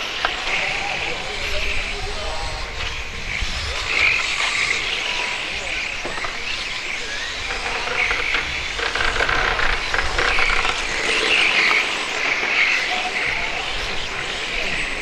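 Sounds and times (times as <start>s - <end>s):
rc car motors whining: 0.0s - 15.0s
scattered ticks: 2.7s - 15.0s.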